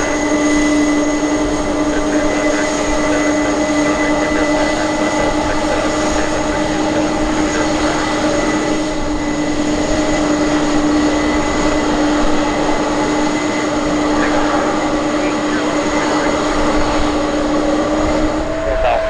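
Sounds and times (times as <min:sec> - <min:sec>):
aircraft engine droning: 0:00.0 - 0:19.0.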